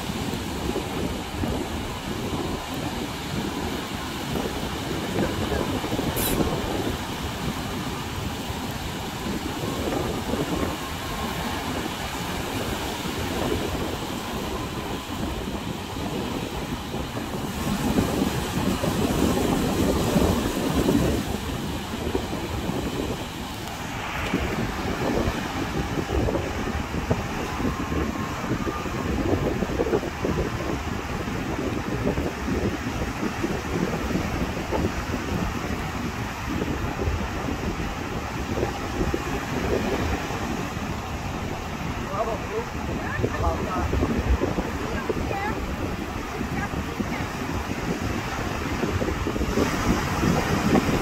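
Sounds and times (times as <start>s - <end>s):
surf breaking on beach: 0.0s - 51.0s
wind buffeting microphone: 0.0s - 51.0s.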